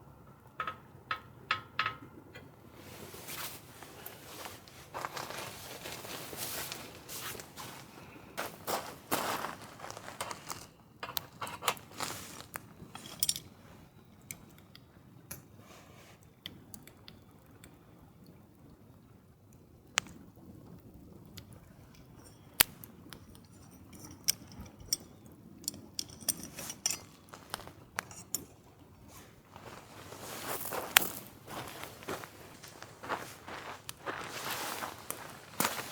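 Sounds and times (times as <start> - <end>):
clicks taps and crunchy handling: 0.4 - 15.6, 16.2 - 17.8, 21.3 - 35.9.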